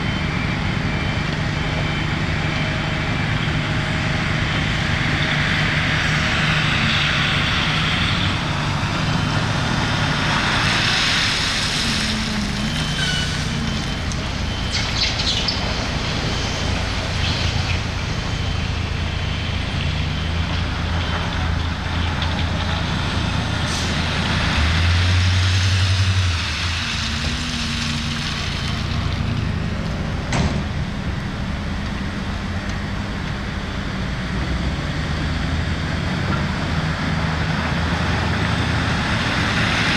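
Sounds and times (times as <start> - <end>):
heavy diesel machinery drone: 0.0 - 39.9.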